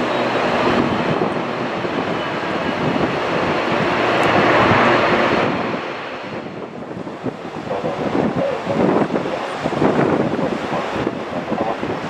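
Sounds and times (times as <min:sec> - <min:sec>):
turboprop airliner climbing overhead: 0:00.0 - 0:12.0.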